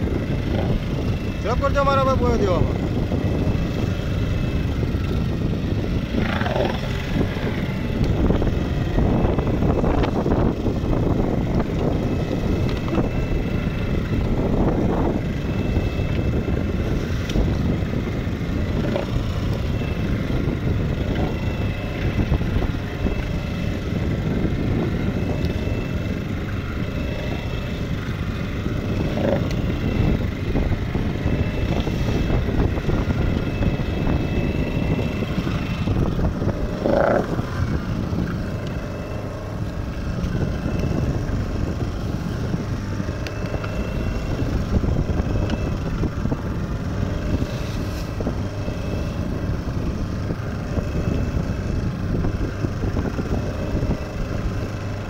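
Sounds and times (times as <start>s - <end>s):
boat motor drone: 0.0s - 55.0s
water rushing along hull: 0.0s - 55.0s
wind on microphone: 0.0s - 55.0s.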